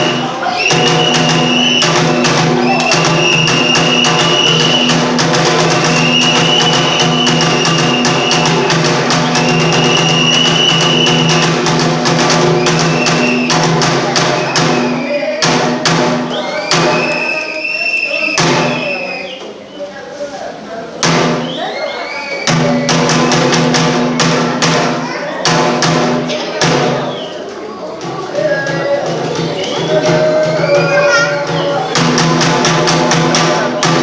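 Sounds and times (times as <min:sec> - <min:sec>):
drum and percussion strikes: 0:00.0 - 0:17.5, 0:18.3 - 0:19.0, 0:21.0 - 0:21.7, 0:22.4 - 0:34.0.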